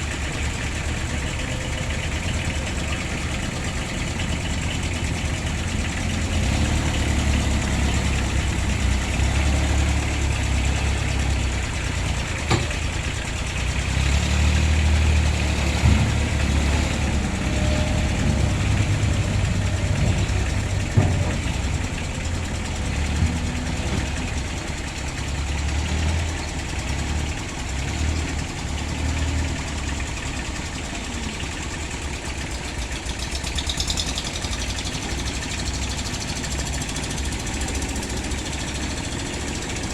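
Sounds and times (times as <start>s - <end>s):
diesel engines idling: 0.0s - 39.9s.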